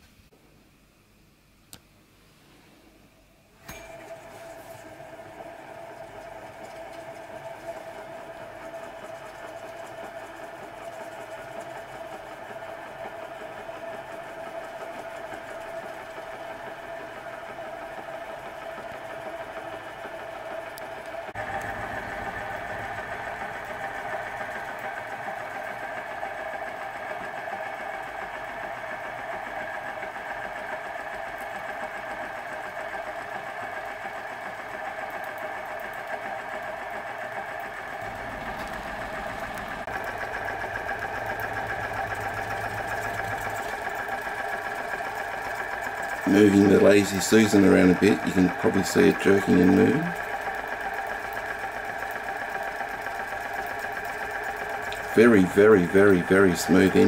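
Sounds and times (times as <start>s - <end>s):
hot air engine whirring and clattering: 3.6s - 57.0s.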